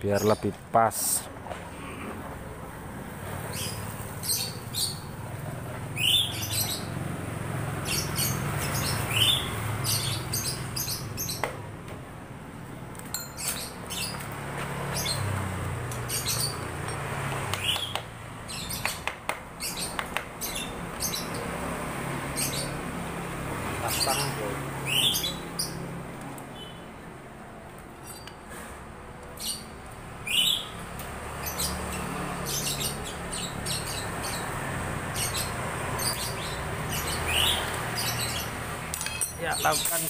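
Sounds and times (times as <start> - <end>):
small birds chirping: 0.0 - 1.3, 3.1 - 11.6, 12.6 - 27.1, 27.9 - 40.0.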